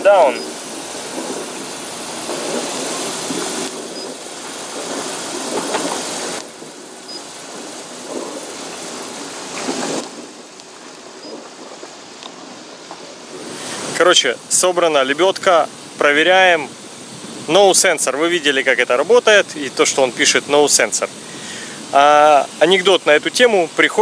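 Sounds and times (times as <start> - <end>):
wind buffeting microphone: 0.0 - 23.7.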